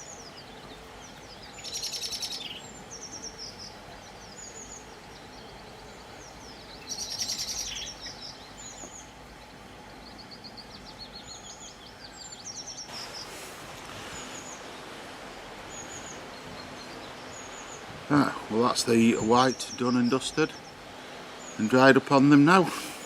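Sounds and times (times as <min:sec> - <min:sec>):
low background noise: 0:00.0 - 0:23.0
soft hiss: 0:00.0 - 0:23.0
songbirds chirping: 0:00.0 - 0:23.0.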